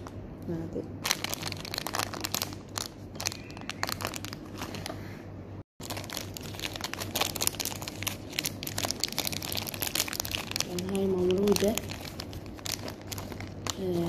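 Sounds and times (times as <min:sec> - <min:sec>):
plastic wrapper crinkling: 0:01.0 - 0:05.0, 0:05.8 - 0:14.0.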